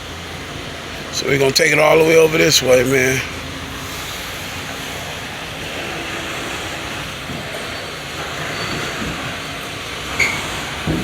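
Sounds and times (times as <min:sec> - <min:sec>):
road and body noise: 0:00.0 - 0:11.0
truck engine running: 0:00.0 - 0:11.0.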